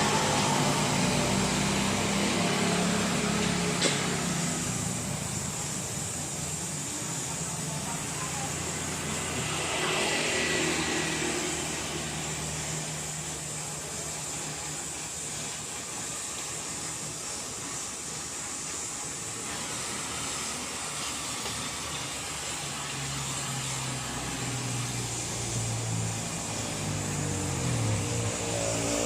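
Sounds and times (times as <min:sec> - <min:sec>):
constant hiss: 0:00.0 - 0:29.0.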